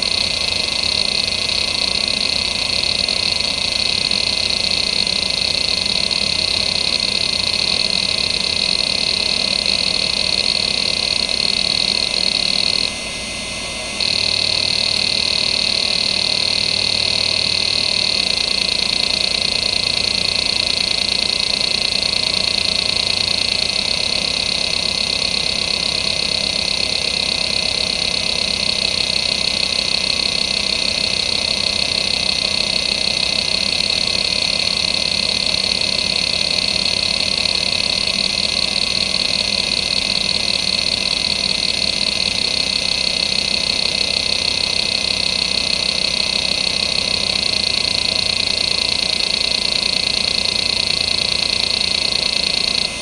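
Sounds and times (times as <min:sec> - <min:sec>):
hard drive seek chatter: 0:00.0 - 0:13.0, 0:13.9 - 0:53.0
hard drive spindle whine: 0:00.0 - 0:53.0.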